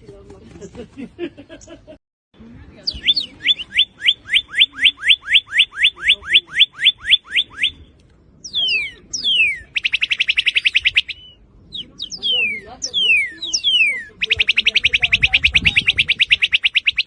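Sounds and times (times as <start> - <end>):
cardinal singing whistled notes: 2.9 - 17.0.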